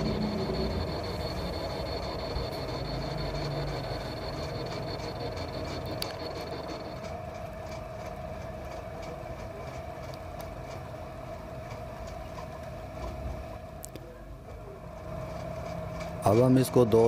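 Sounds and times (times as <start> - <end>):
lathe humming and whining: 0.0 - 17.0.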